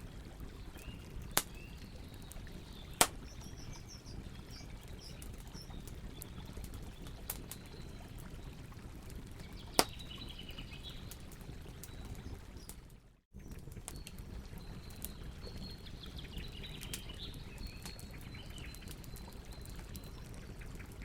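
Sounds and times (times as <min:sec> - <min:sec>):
fire crackling and popping: 0:00.0 - 0:21.0
wood fire rumbling: 0:00.0 - 0:21.0.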